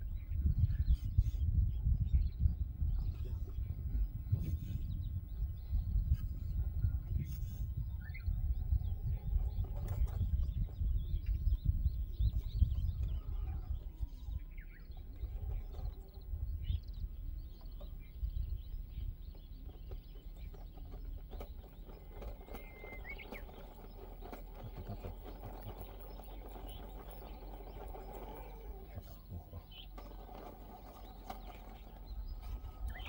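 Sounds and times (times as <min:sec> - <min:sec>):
birds chirping: 0:00.0 - 0:33.0
low gusty wind rumble: 0:00.0 - 0:33.0.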